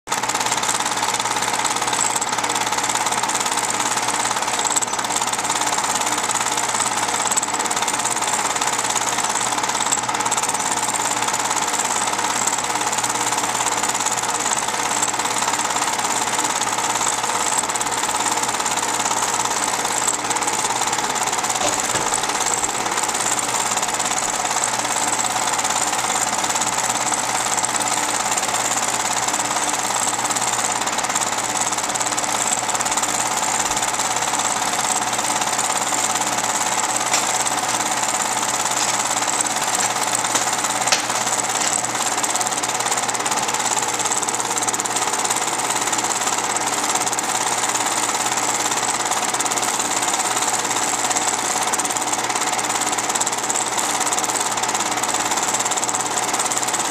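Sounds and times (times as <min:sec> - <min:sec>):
film projector clattering: 0:00.1 - 0:56.9.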